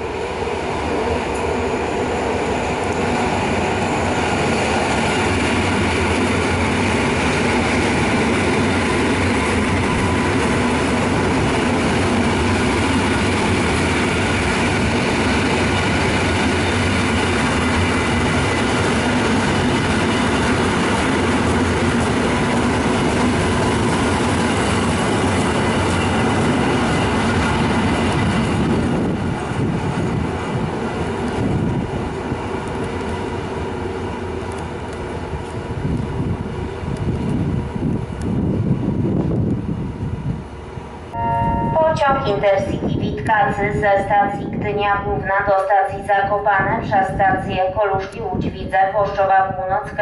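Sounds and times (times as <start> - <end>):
train wheels rumbling on rails: 0.0 - 41.2.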